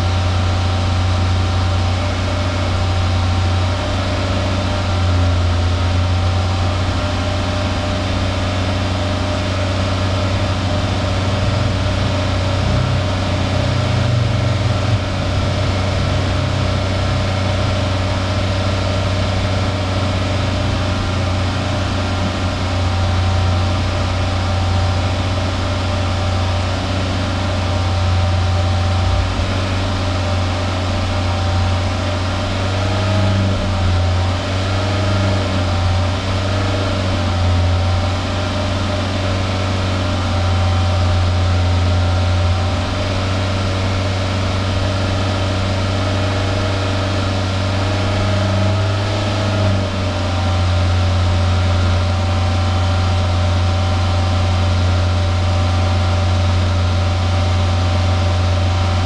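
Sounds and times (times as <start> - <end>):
car exhaust idling: 0.0 - 59.0.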